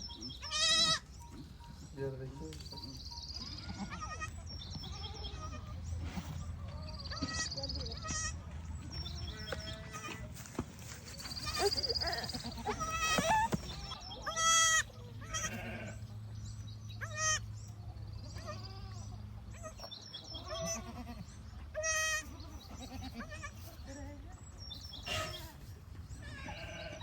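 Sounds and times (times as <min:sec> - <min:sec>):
sheep and lambs bleating: 0:00.1 - 0:01.7, 0:02.8 - 0:08.5, 0:09.2 - 0:10.5, 0:11.2 - 0:16.1, 0:17.0 - 0:17.5, 0:18.2 - 0:24.4, 0:25.0 - 0:27.0.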